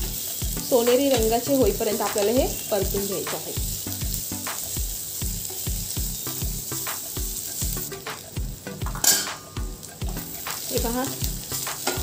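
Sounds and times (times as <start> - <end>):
background music with steady beat: 0.0 - 12.0
onions sizzling in oil: 0.0 - 12.0.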